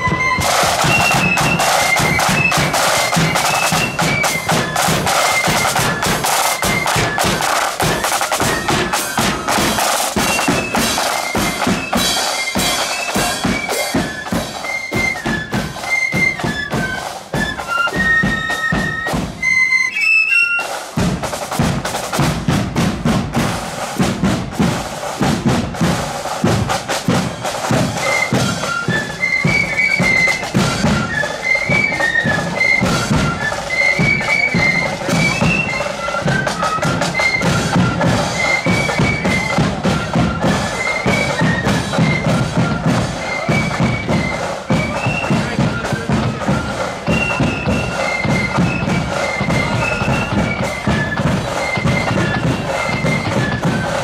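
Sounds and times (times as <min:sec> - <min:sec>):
flutes playing march melody: 0:00.0 - 0:54.0
side drums beating: 0:00.0 - 0:54.0.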